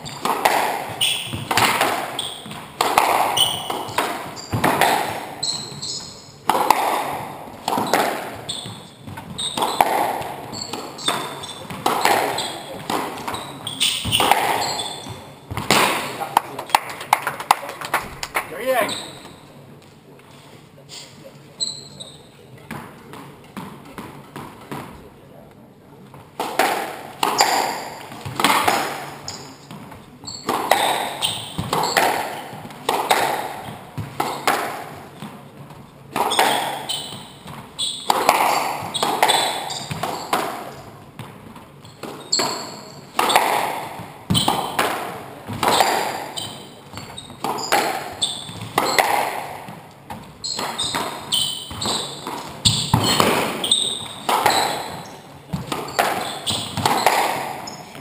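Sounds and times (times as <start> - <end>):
squash ball hits echoing: 0.0 - 18.8, 26.2 - 58.0.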